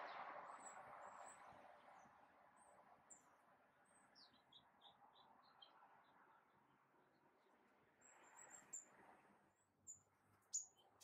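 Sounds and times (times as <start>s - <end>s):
songbird chirps: 0.0s - 6.4s, 7.0s - 11.0s.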